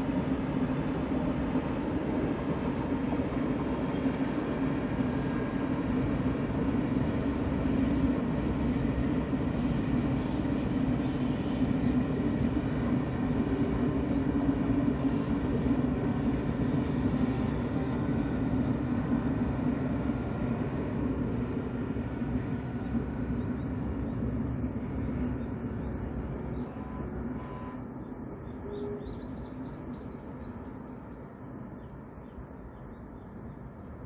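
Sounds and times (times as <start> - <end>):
high-speed train running: 0.0 - 34.0.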